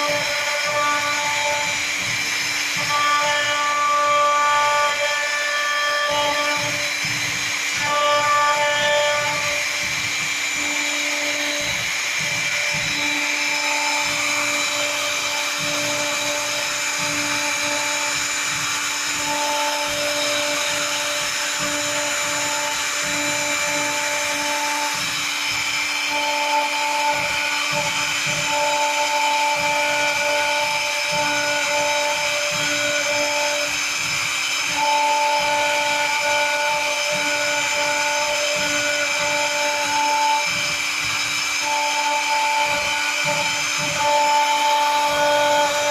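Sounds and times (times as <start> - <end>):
machine high whine: 0.0 - 45.9
motor tones shifting pitch: 0.0 - 45.9.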